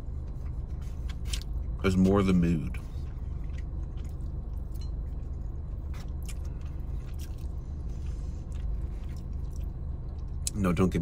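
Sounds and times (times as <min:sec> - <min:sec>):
man chewing food: 0:00.0 - 0:02.0, 0:02.7 - 0:10.6
car cabin low rumble: 0:00.0 - 0:11.0.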